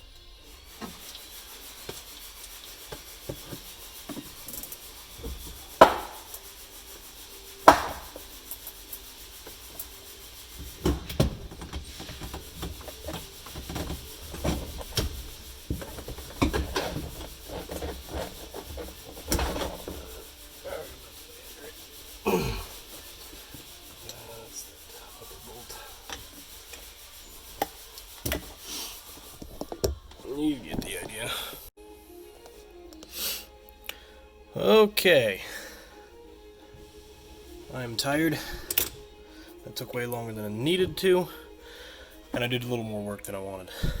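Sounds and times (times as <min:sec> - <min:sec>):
tools rubbing and scraping metal: 0:00.2 - 0:31.7, 0:36.2 - 0:43.4.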